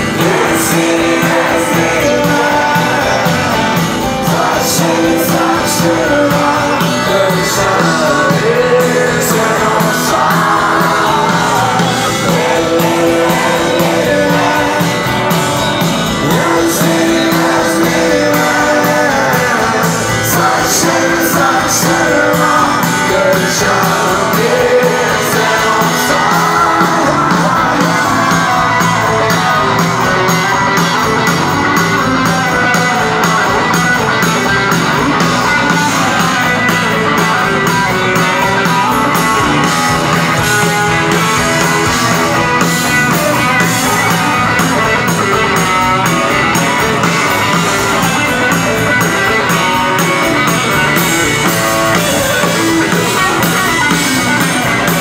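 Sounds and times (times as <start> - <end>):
drums: 0.0 - 55.0
electric guitars: 0.0 - 55.0
lead vocal singing: 0.0 - 55.0.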